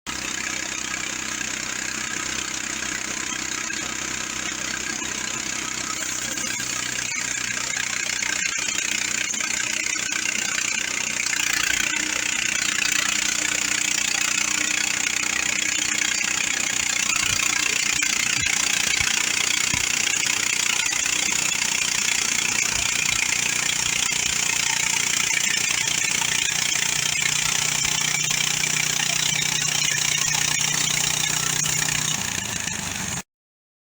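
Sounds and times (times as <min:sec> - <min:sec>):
engine hum: 0:00.1 - 0:33.2.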